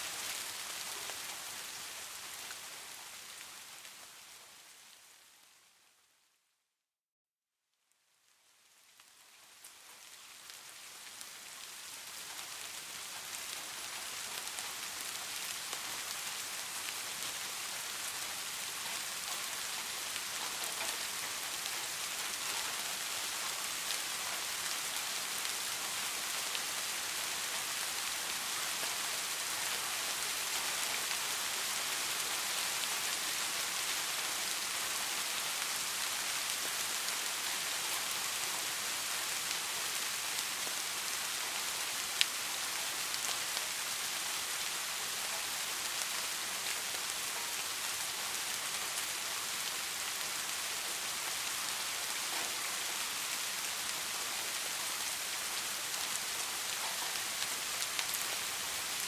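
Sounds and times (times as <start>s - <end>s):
steady rain falling: 0.0s - 6.5s, 7.8s - 59.0s.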